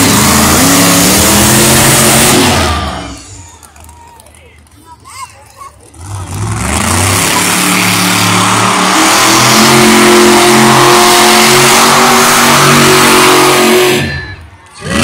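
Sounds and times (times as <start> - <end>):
monster truck engine revving: 0.0 - 3.4, 5.9 - 15.0.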